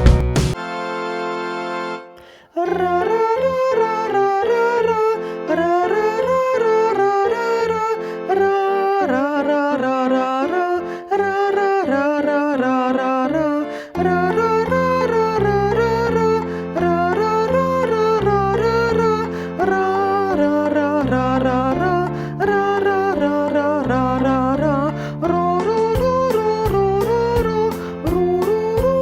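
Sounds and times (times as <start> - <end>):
melodic music: 0.0 - 9.7, 13.3 - 29.0.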